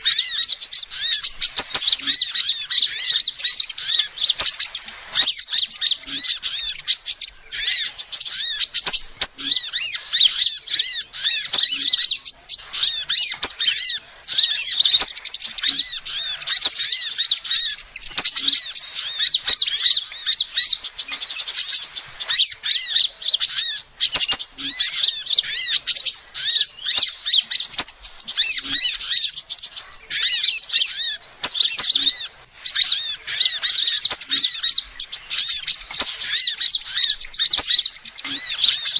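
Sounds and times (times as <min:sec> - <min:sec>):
bird chirps and trills: 0:00.0 - 0:38.9.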